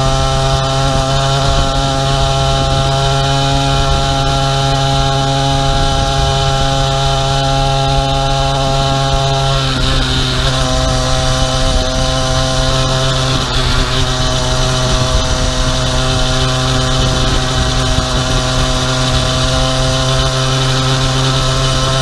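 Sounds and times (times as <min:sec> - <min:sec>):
two-stroke engine running: 0:00.0 - 0:22.0.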